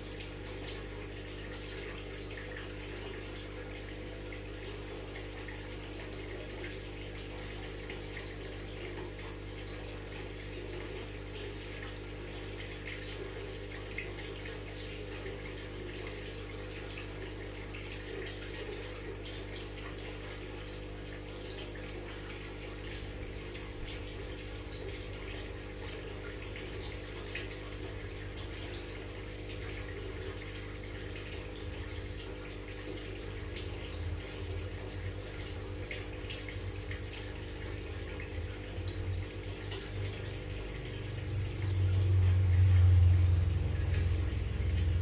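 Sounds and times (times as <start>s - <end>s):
low electrical pump hum: 0.0s - 45.0s
water trickling and bubbling: 0.0s - 45.0s.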